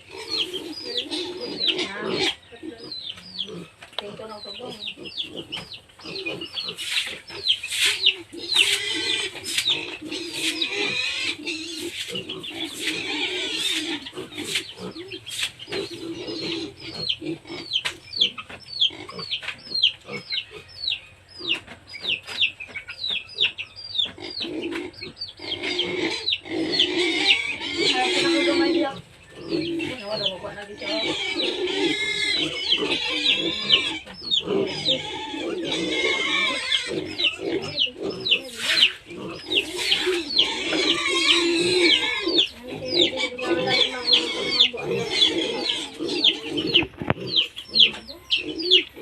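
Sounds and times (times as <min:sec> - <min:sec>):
chickens calling: 0:00.0 - 0:49.0
pigs calling: 0:00.0 - 0:49.0.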